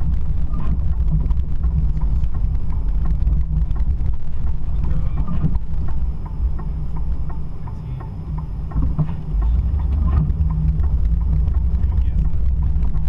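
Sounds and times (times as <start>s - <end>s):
light ticks: 0.0s - 13.0s
vehicle engine rumble: 0.0s - 13.0s.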